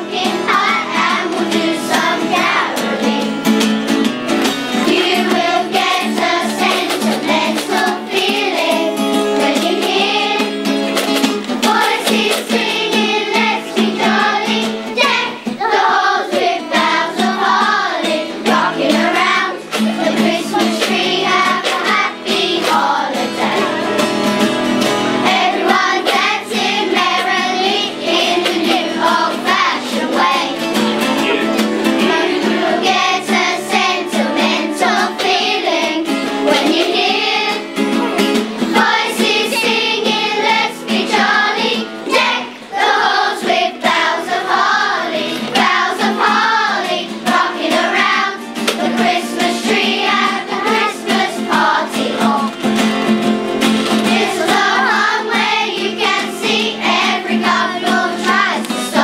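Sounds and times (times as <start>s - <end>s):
children's choir singing a carol: 0.0s - 59.0s.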